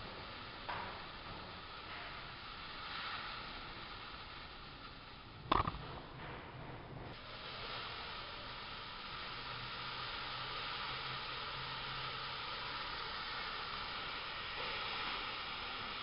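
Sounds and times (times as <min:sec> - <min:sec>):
chemical fire hissing: 0:00.0 - 0:06.2, 0:07.1 - 0:16.0.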